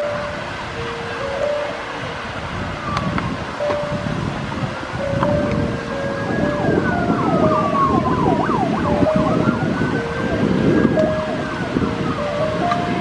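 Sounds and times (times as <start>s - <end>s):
fountain jets splashing: 0.0s - 13.0s
siren-like wail: 0.0s - 13.0s
wind buffeting microphone: 0.0s - 13.0s.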